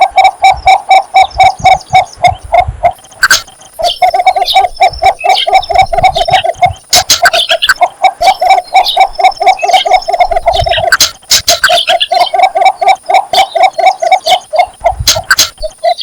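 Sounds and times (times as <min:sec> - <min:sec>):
bird low clucking calls: 0:00.0 - 0:16.0
sharp clicks: 0:01.6 - 0:07.9, 0:08.9 - 0:16.0.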